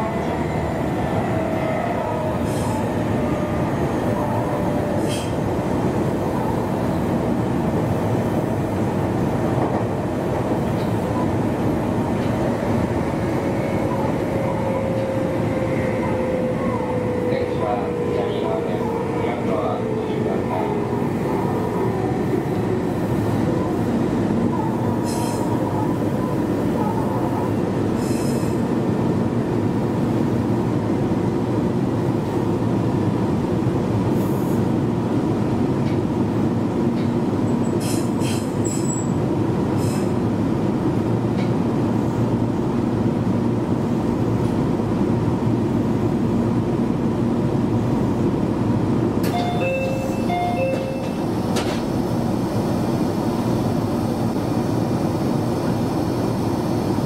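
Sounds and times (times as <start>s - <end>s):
train wheels rumbling and humming: 0.0s - 57.0s.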